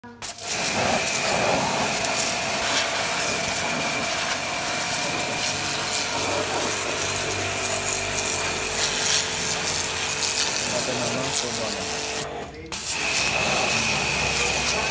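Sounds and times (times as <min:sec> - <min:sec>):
pressure washer motor whine: 0:00.1 - 0:14.9
water jet hissing on metal: 0:00.1 - 0:14.9.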